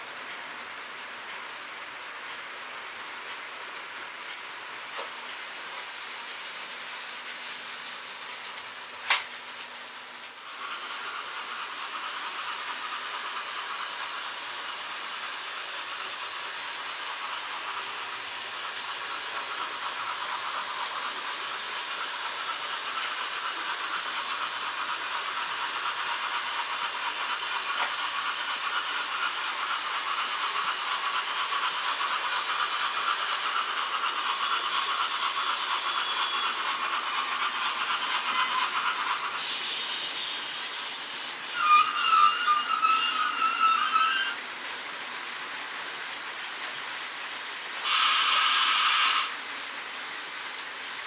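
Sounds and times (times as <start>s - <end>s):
model train wheels rattling: 8.2s - 51.0s.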